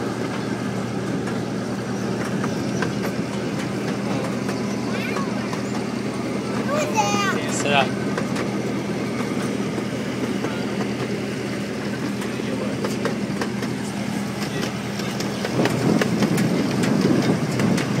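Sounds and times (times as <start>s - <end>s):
miniature train engine hum: 0.0s - 18.0s
wheels clicking over rails: 0.0s - 18.0s.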